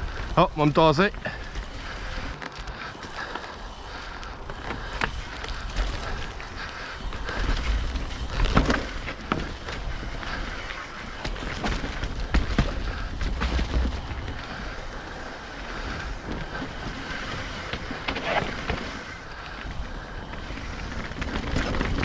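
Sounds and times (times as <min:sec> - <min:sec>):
bike knocking and rattling: 0:00.0 - 0:22.0
bike tyres on dirt trail: 0:00.0 - 0:22.0.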